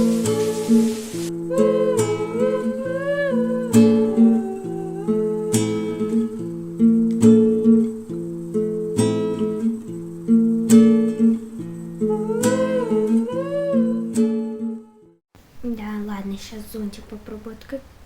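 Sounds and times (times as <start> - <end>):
acoustic guitar plucked chords: 0.0 - 15.2.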